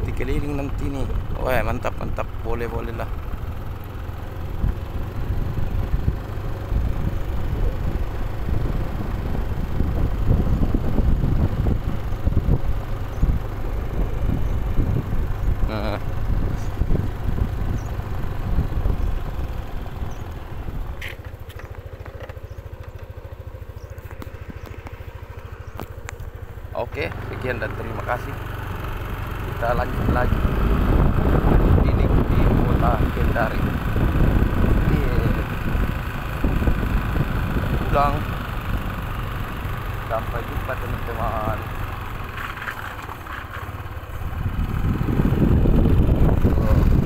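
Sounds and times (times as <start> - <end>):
motorcycle engine: 0.0 - 47.0
wind buffeting microphone: 4.5 - 28.3, 29.4 - 40.3, 44.0 - 47.0.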